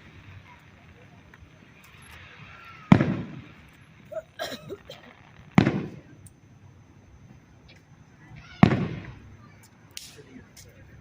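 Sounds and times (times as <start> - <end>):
fireworks booming: 0.0 - 11.0
soft fireworks pops: 0.0 - 11.0.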